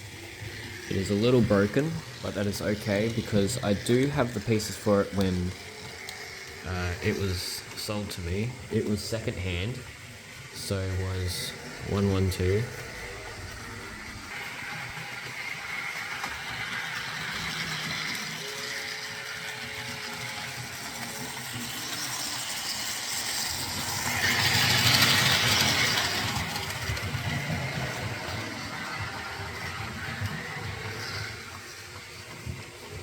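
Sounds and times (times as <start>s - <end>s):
model train whirring and rattling: 0.0s - 33.0s.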